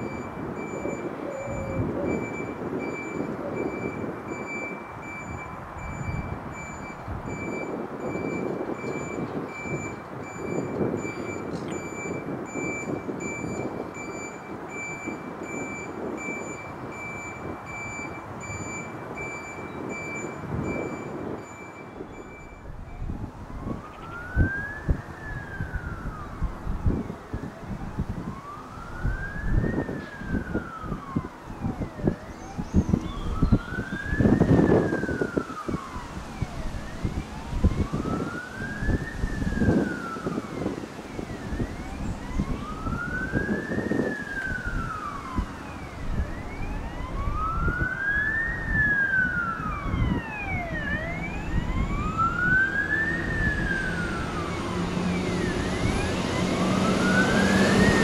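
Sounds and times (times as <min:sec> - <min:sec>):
siren wailing: 0:00.0 - 0:58.0.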